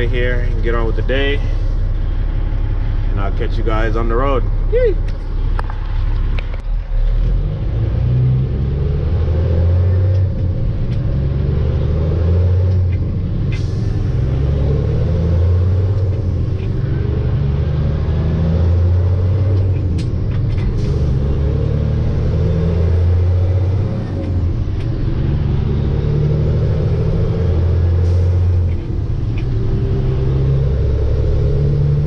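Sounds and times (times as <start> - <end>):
truck diesel engine under load: 0.0 - 32.0.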